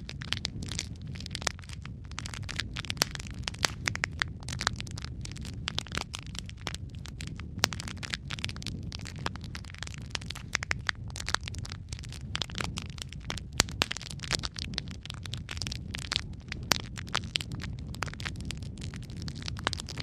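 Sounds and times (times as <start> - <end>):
low rumble of flame: 0.0 - 20.0
sharp pops and snaps: 0.0 - 20.0
wood fire crackling: 0.0 - 20.0.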